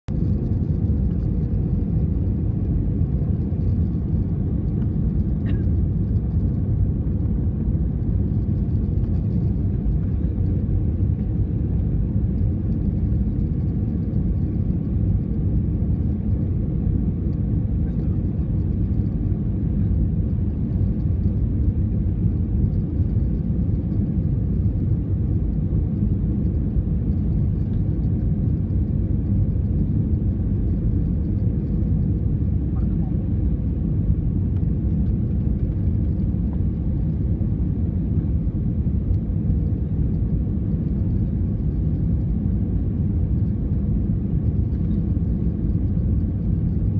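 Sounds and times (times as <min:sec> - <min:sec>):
airliner engine rumble: 0:00.1 - 0:46.9.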